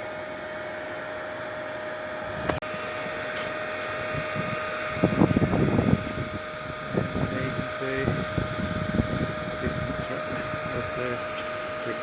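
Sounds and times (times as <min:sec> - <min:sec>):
machine motor whirring: 0:00.0 - 0:12.0.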